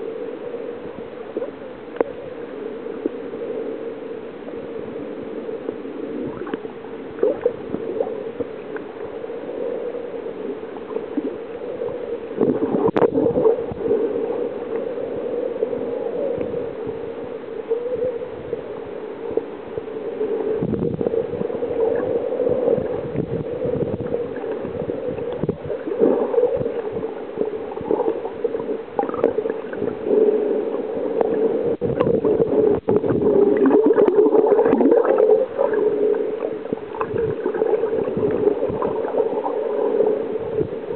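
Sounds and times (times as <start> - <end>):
muffled underwater water rumble: 0.0 - 40.9.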